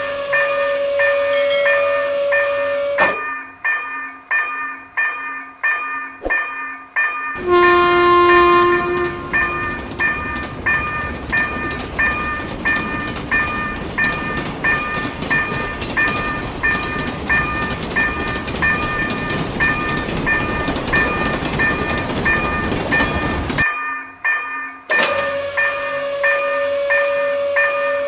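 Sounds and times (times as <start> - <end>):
passing train running: 0.0 - 3.3, 7.3 - 23.6, 24.9 - 28.0
level crossing warning bell: 0.0 - 28.0.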